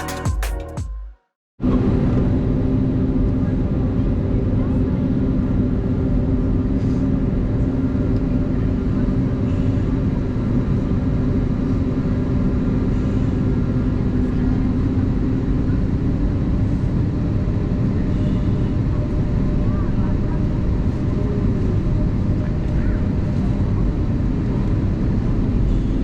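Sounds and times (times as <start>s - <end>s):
jet engines heard inside cabin: 1.6s - 26.0s.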